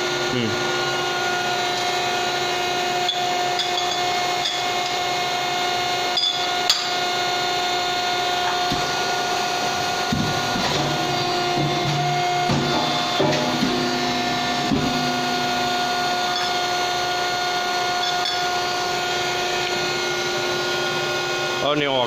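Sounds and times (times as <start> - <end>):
machine motor humming: 0.0 - 22.0.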